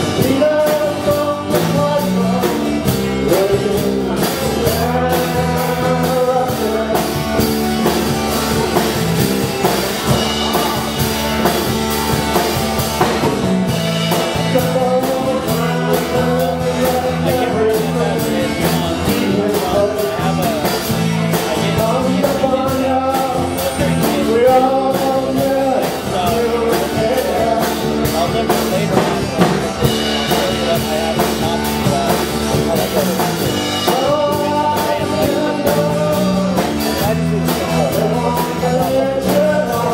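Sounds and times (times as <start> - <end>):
drums: 0.0 - 39.9
electric guitar: 0.0 - 39.9
man singing: 0.0 - 39.9
strummed acoustic guitar: 0.0 - 39.9.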